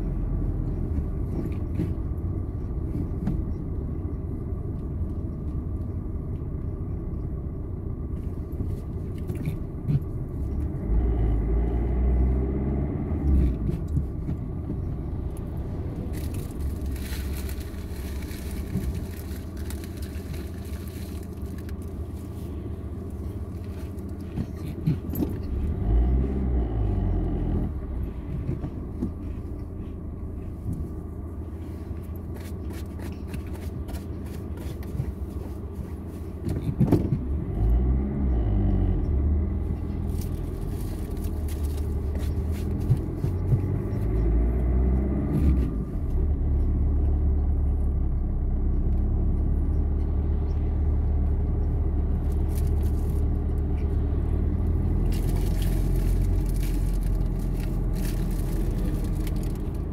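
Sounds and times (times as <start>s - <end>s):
car engine: 0.0s - 59.9s
road noise inside car: 0.0s - 59.9s.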